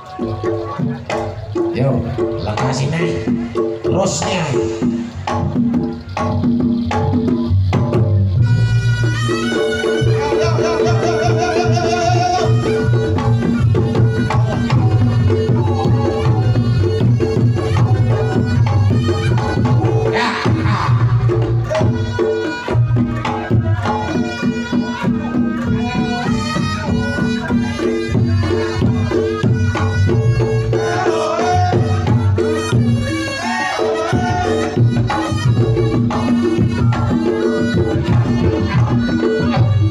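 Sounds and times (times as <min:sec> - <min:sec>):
drums beating dense rhythm: 0:00.0 - 0:39.9
wavering melody: 0:00.0 - 0:39.9.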